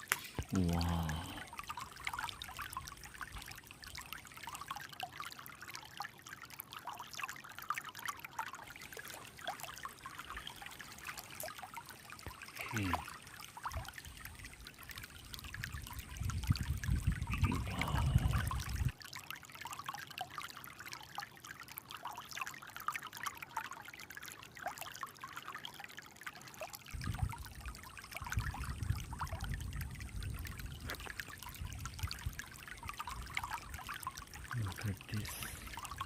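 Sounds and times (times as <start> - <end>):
stream babbling over stones: 0.0 - 36.0.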